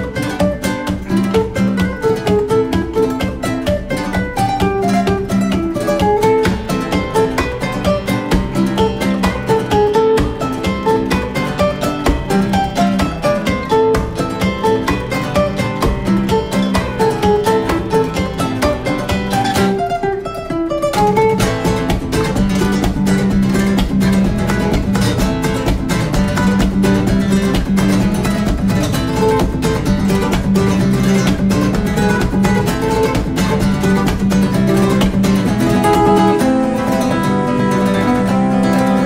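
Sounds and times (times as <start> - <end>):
acoustic guitar strummed fast: 0.0 - 39.0.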